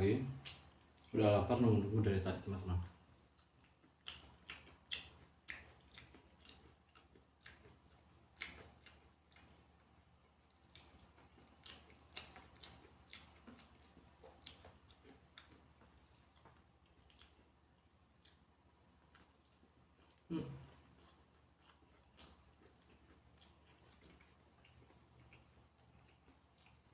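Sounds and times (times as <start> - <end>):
chewing mouth clicks: 2.8 - 18.5, 20.9 - 26.9.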